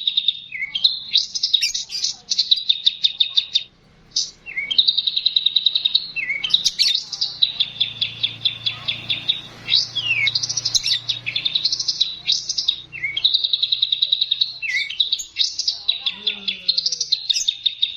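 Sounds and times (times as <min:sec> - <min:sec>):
songbird trills: 0:00.0 - 0:17.9.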